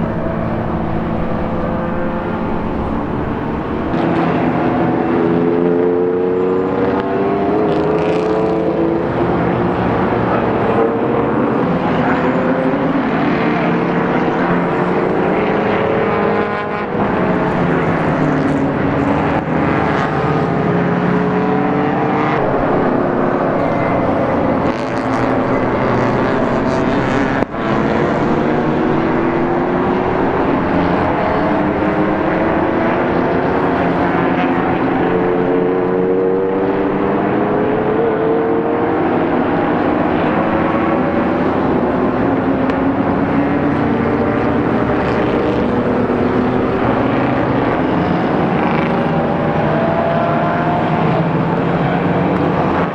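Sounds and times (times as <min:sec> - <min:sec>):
race car engines accelerating: 0:00.0 - 0:52.9.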